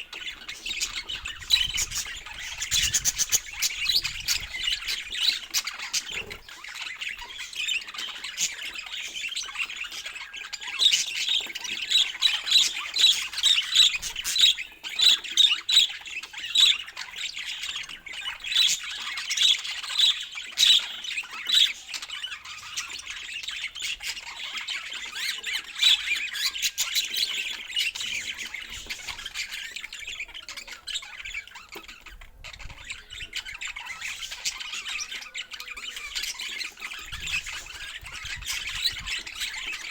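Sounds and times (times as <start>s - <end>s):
budgerigars chattering: 0.0s - 39.9s
sharp repeated bird calls: 0.0s - 39.9s.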